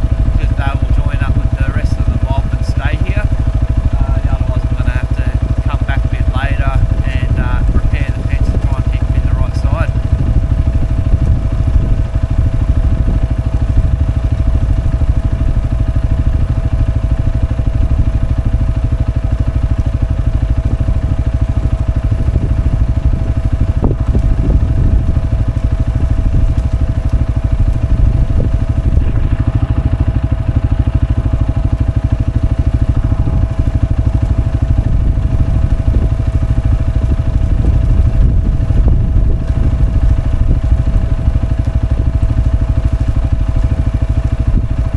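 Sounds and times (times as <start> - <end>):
farm vehicle engine rumbling: 0.0 - 44.9
thin steady whine: 0.0 - 44.9.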